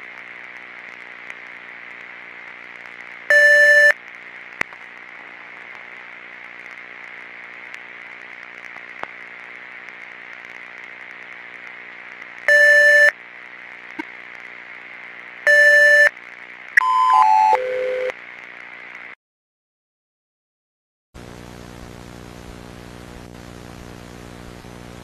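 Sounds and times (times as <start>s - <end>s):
electrical hum and hiss: 0.0s - 19.2s, 21.2s - 25.0s.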